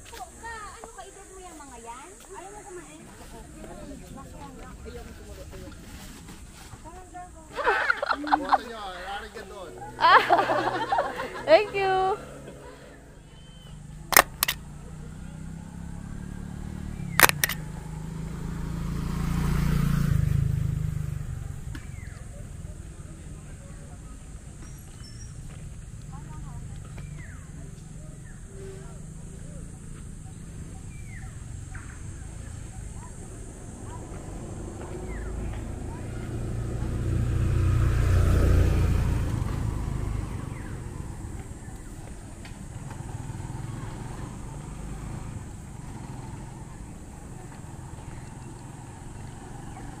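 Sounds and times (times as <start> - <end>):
vehicle engine passing by: 7.6 - 50.0.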